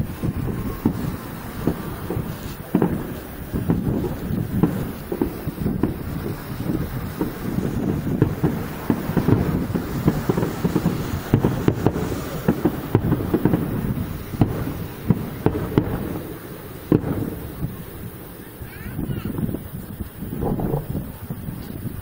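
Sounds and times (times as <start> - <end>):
firework shells bursting: 0.0 - 22.0
wind rumble on microphone: 0.0 - 22.0.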